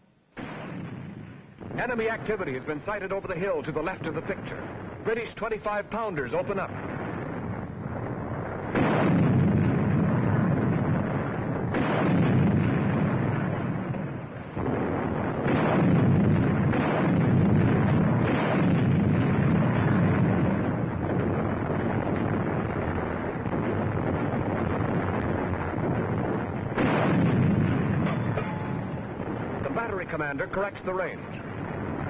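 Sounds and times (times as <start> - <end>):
field guns firing: 0.4 - 32.0.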